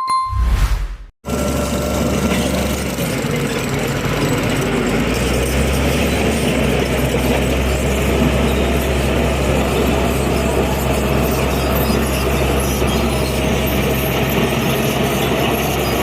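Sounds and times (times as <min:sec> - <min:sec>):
bulldozer diesel engine running: 0:01.3 - 0:16.0.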